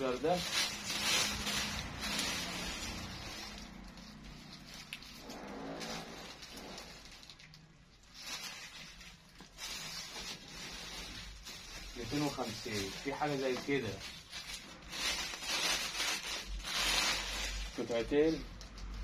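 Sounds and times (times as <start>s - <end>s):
fabric rustling: 0.0s - 19.0s.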